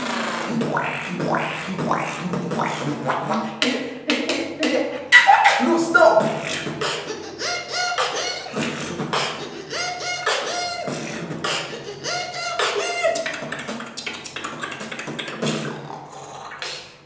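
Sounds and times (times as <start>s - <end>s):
man beatboxing: 0.0s - 17.0s.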